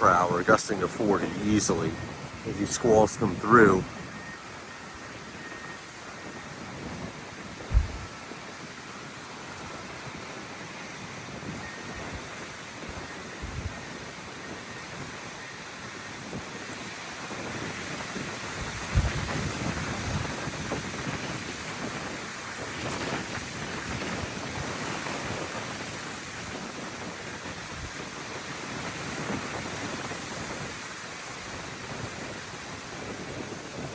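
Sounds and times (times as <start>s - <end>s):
gusty wind: 0.0s - 33.9s
wind buffeting microphone: 0.0s - 33.9s.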